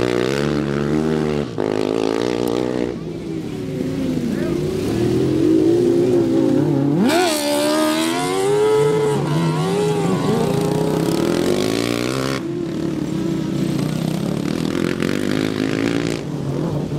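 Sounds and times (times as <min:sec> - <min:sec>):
lawn mower engines racing: 0:00.0 - 0:16.9.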